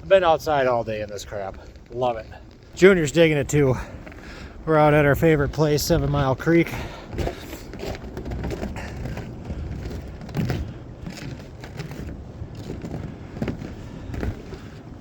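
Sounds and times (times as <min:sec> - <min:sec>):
wind buffeting microphone: 0:00.0 - 0:15.0
footsteps in snow: 0:00.1 - 0:05.6, 0:06.5 - 0:15.0.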